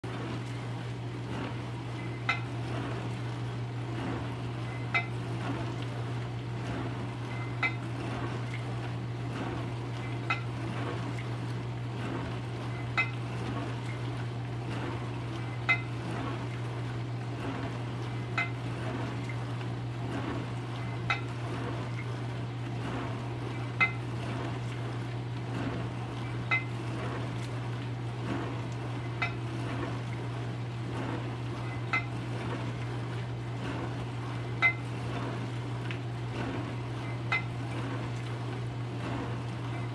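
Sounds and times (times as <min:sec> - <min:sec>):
dishwasher motor hum: 0:00.0 - 0:39.9.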